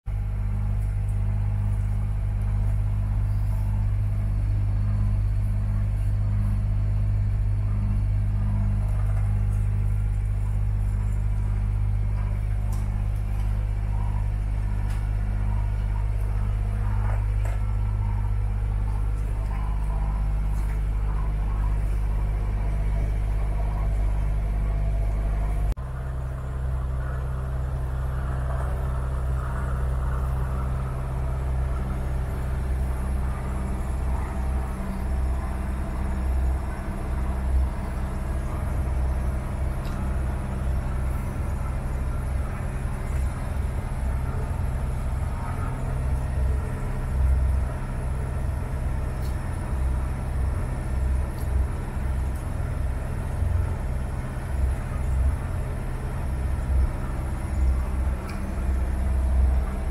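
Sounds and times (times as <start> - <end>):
engine droning: 0.0 - 59.9.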